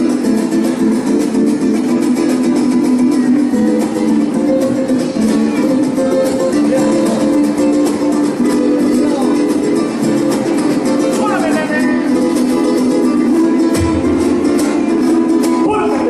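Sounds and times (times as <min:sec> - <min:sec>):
mariachi band playing: 0:00.0 - 0:16.0
strummed guitars: 0:00.0 - 0:16.0.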